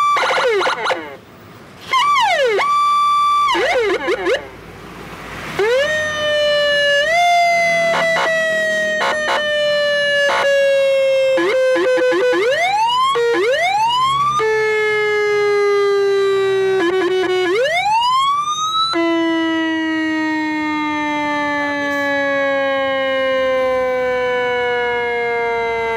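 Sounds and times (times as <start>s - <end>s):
electronic police siren: 0.0s - 1.2s, 1.9s - 4.5s, 5.6s - 25.9s.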